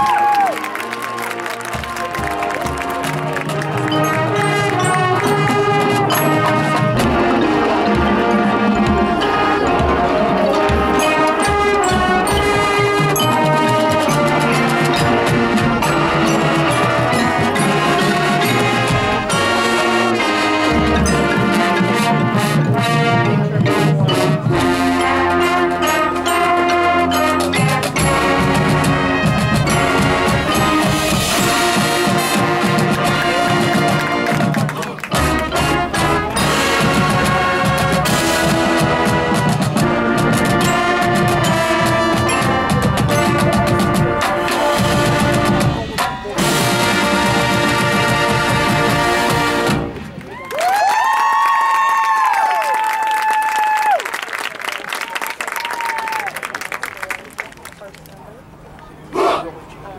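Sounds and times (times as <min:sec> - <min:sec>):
marching band playing: 0:00.0 - 0:57.6.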